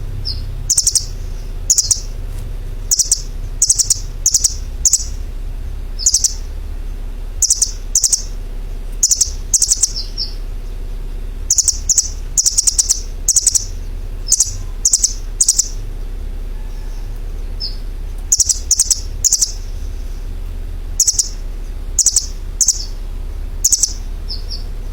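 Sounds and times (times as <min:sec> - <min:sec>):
steady low hum: 0:00.0 - 0:24.9
bird chirping: 0:00.1 - 0:02.2, 0:02.8 - 0:05.3, 0:05.9 - 0:06.6, 0:07.4 - 0:10.8, 0:11.4 - 0:15.9, 0:16.6 - 0:20.3, 0:20.9 - 0:24.9.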